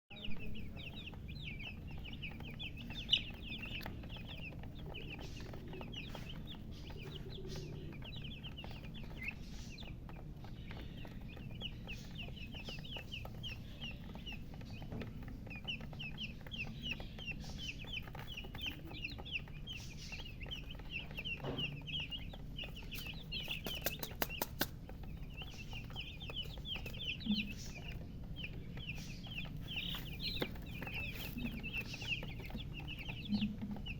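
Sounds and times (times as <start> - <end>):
chicks peeping: 0.1 - 33.9.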